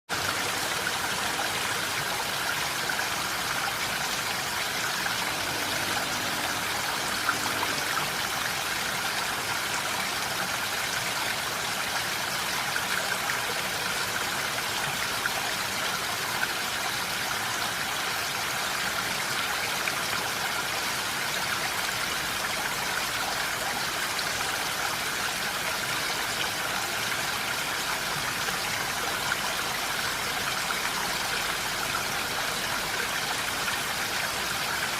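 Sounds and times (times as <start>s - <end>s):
rain falling in forest: 0.1s - 34.9s.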